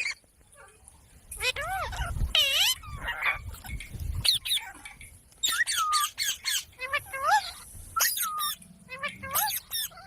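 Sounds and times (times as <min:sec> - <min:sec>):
parrot calling: 0:01.4 - 0:10.0.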